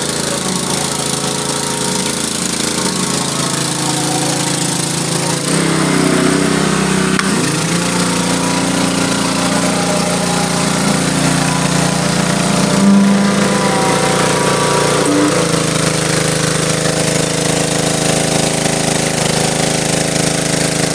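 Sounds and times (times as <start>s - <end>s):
high-pressure water spraying on concrete: 0.0s - 20.9s
pressure washer engine running: 0.0s - 20.9s.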